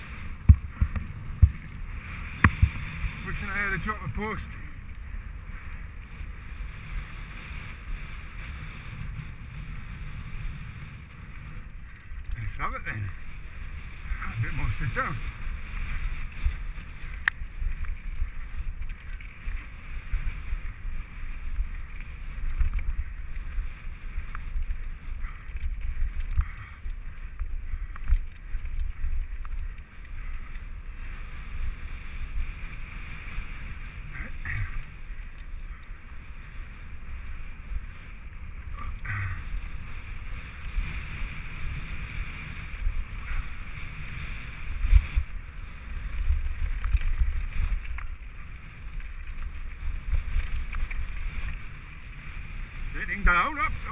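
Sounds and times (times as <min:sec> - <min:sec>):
bike tyres rumbling and rattling: 0:00.0 - 0:53.9.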